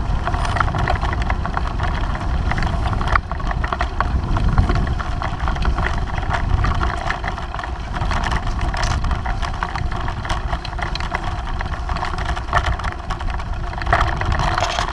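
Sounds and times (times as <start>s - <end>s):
bicycle rattling over bumpy grass: 0.0s - 14.9s
wind rumble on microphone: 0.0s - 14.9s.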